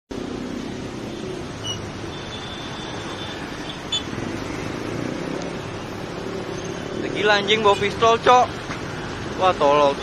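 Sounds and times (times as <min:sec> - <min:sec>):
road traffic noise: 0:00.1 - 0:10.0.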